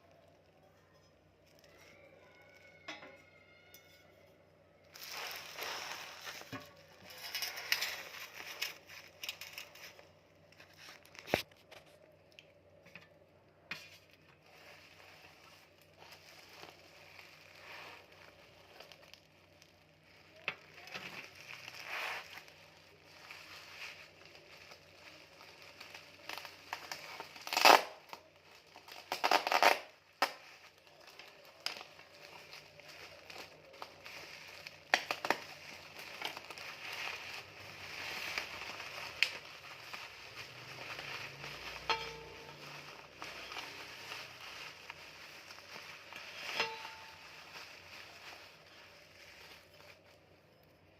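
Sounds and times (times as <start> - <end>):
packaging crinkling and tearing: 4.8 - 13.2, 13.9 - 50.9.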